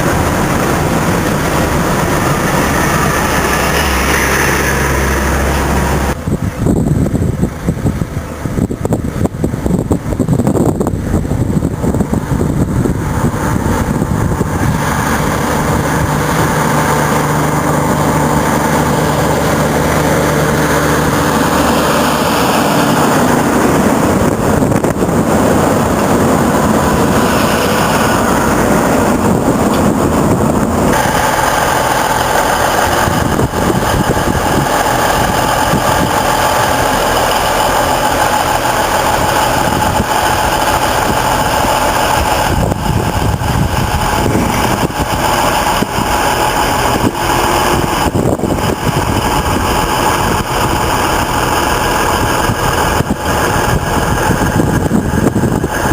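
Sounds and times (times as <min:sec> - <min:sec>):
heavy truck engine running: 0:00.0 - 0:55.9.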